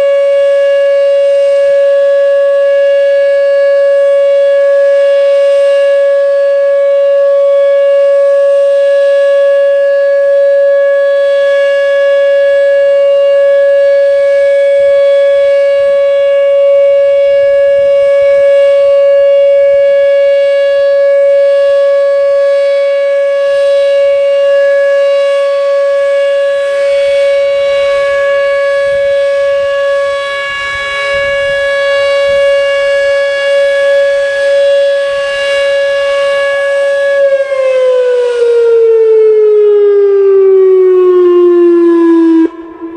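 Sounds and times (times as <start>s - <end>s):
electronic storm siren steady tone: 0.0s - 42.9s.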